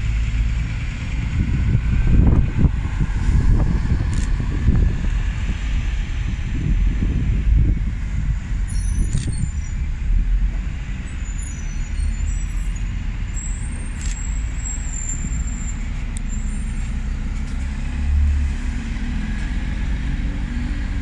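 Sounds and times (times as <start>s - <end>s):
diesel bus engines rumbling: 0.0s - 21.0s.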